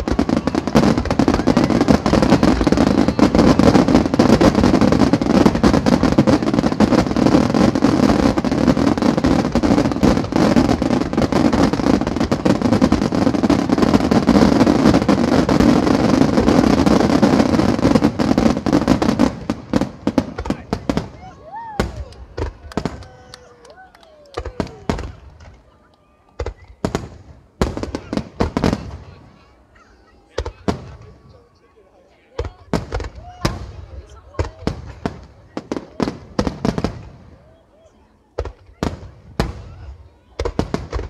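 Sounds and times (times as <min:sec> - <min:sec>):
fireworks bangs and crackles: 0:00.0 - 0:31.6, 0:32.2 - 0:41.0.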